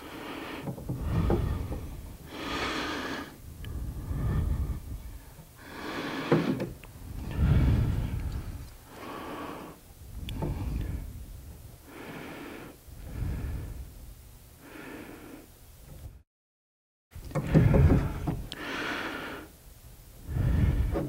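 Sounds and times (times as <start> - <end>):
man breathing heavily: 0.0 - 16.2, 17.3 - 19.6, 20.2 - 21.0.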